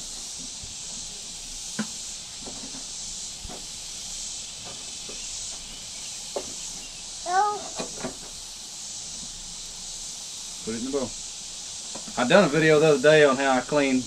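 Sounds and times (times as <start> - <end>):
insect chorus hissing: 0.0 - 14.0.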